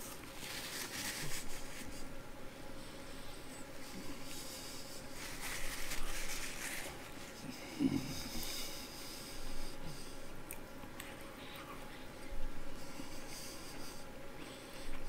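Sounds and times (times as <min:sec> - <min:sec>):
nasal breathing: 0:00.0 - 0:15.0.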